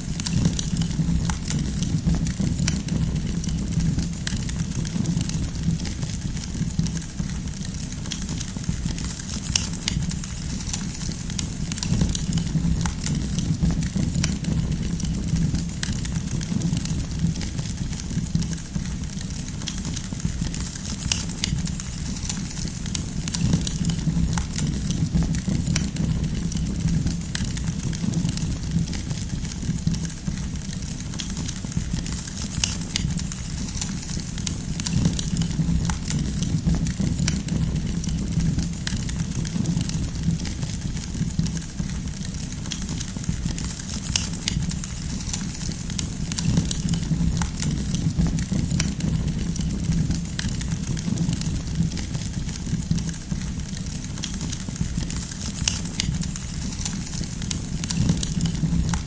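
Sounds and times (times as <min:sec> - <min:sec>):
campfire crackling and popping: 0:00.0 - 0:59.0
fire low rumble: 0:00.0 - 0:59.0.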